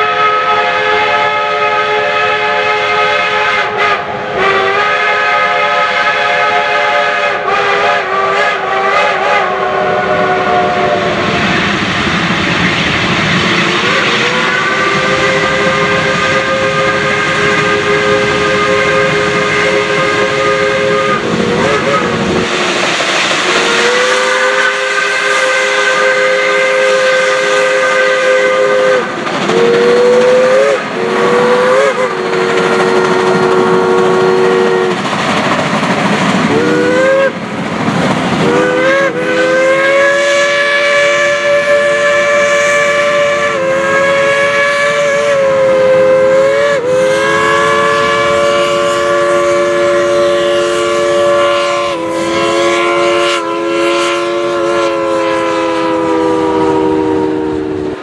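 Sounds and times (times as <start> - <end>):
steam locomotive whistles blowing: 0.0 - 11.8, 12.4 - 35.2, 36.5 - 37.4, 38.4 - 58.0
locomotive steam and exhaust noise: 0.0 - 58.0.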